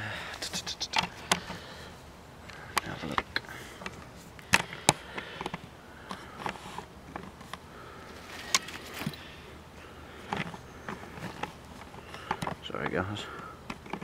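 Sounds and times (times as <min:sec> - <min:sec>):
rustling: 0:00.2 - 0:14.0.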